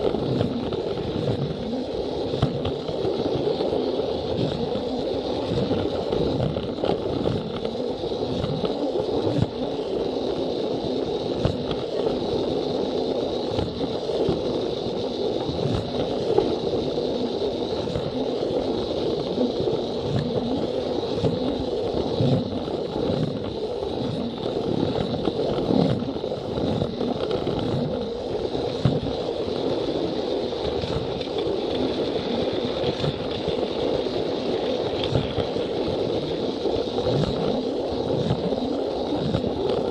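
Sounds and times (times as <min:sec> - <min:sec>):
toy train motor whining: 0:00.0 - 0:39.9
wheels rolling rumble: 0:00.0 - 0:39.9.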